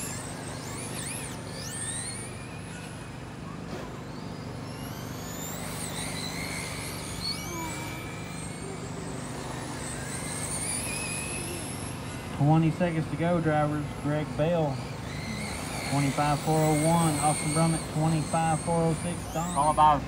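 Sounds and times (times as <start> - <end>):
rc car motors whining: 0.0 - 20.0
steady low hum: 0.0 - 20.0.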